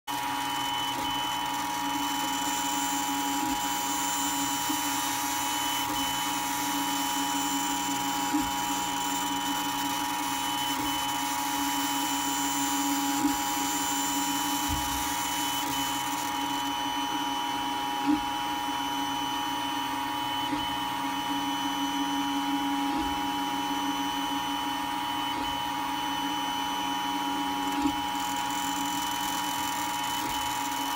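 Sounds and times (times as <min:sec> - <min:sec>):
printer motors and fans whining: 0:00.1 - 0:30.9.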